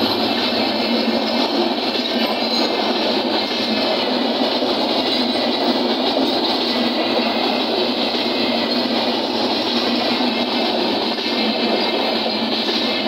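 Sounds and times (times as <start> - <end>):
train wheels running on rails: 0.0 - 13.0.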